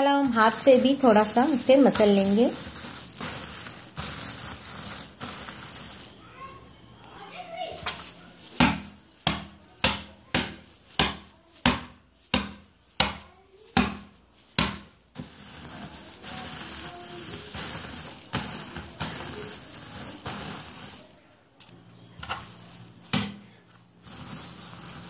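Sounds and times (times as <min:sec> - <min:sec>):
cloth bundle rustling: 0:00.0 - 0:06.6, 0:07.4 - 0:21.1.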